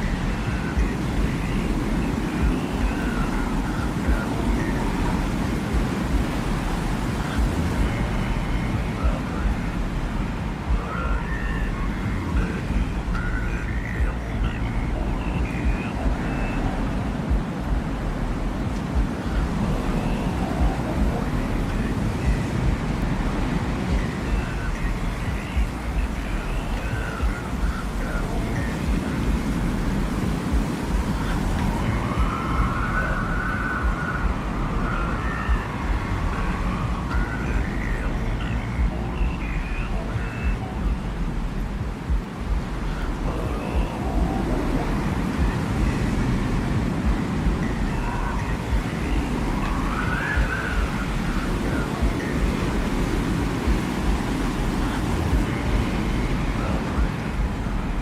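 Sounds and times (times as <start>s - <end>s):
gusting wind rumble: 0.0s - 58.0s.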